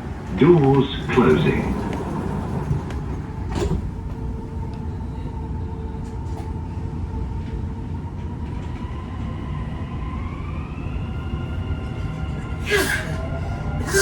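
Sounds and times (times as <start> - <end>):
train rumble with electric whine: 0.0 - 14.0.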